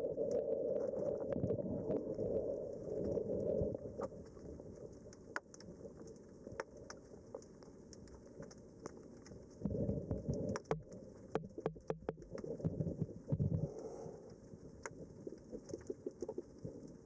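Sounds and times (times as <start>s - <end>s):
underwater clicks and crackles: 0.0s - 17.0s
underwater rumble of moving water: 0.0s - 17.0s.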